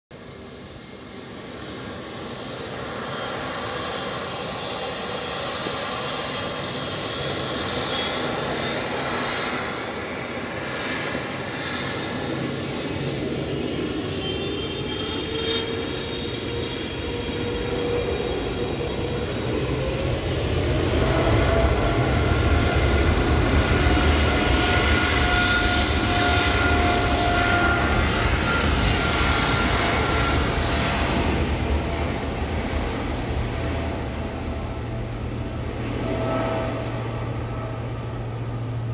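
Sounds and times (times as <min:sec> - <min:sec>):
jet engines spooling up: 0:00.2 - 0:38.9.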